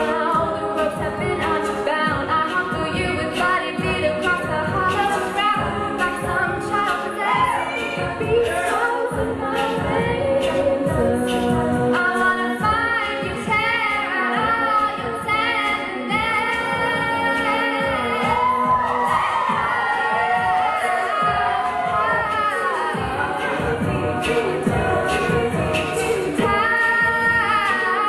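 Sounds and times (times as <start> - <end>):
vocal percussion beat: 0.0 - 28.0
women singing a cappella: 0.0 - 28.0.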